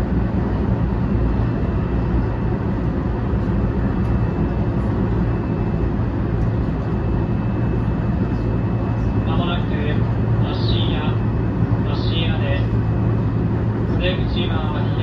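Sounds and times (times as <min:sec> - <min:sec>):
faint high motor whine: 0:00.0 - 0:15.0.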